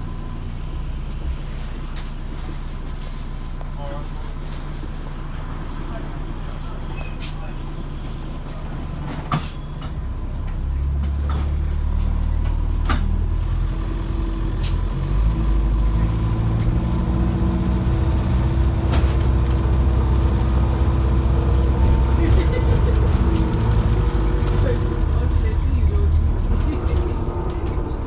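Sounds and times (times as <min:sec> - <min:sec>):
bus drivetrain drone: 0:00.0 - 0:28.0.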